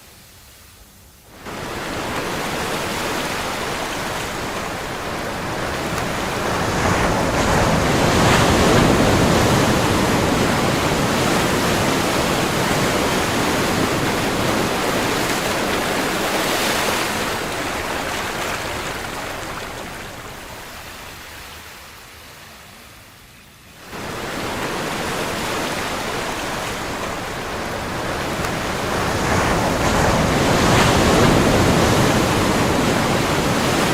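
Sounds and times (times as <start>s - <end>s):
ocean wave washing: 1.3s - 22.8s, 23.8s - 33.9s.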